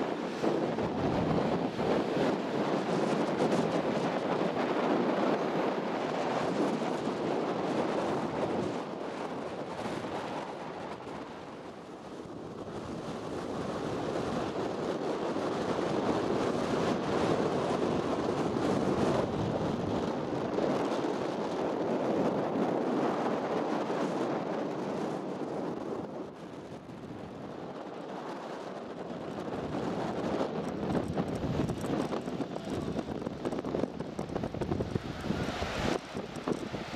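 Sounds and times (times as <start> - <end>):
wind rushing over microphone: 0.0 - 36.9.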